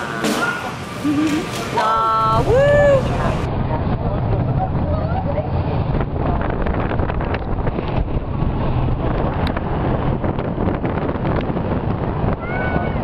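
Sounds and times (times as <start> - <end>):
wind buffeting microphone: 2.1 - 13.0.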